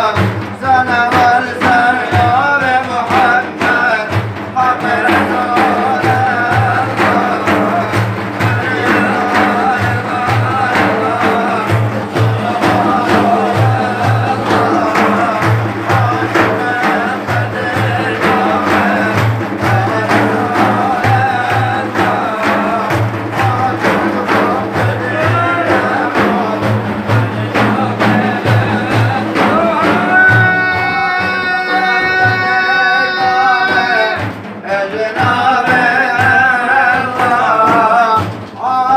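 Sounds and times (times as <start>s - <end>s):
man chanting: 0.0s - 38.9s
steady drum beat: 0.0s - 38.9s.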